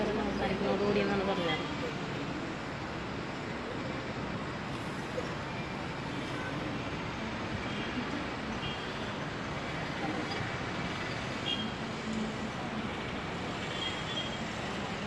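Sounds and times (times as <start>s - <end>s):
distant traffic hiss and rumble: 0.0s - 15.0s.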